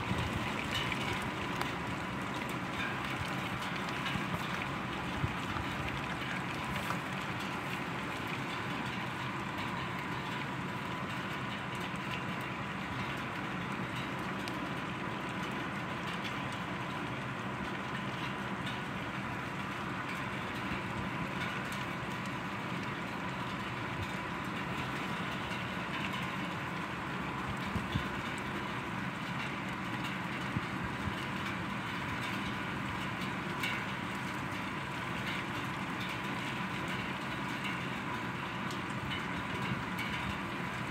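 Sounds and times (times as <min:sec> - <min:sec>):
raindrops ticking on surfaces: 0:00.0 - 0:40.9.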